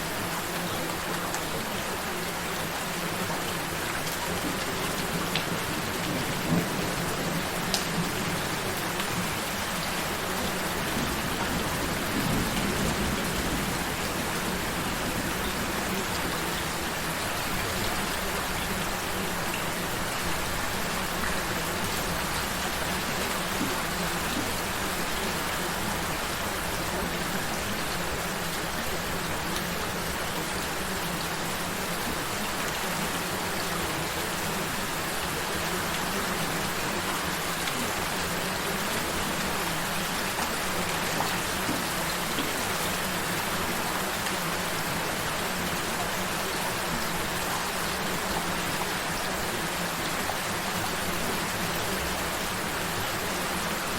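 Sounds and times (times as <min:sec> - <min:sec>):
gentle rain falling: 0:00.0 - 0:53.9.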